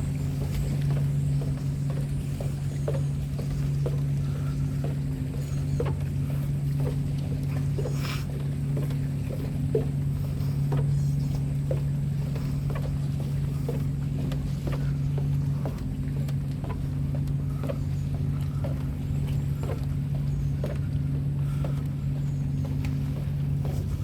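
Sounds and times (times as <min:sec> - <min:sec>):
low motor hum: 0:00.0 - 0:24.0.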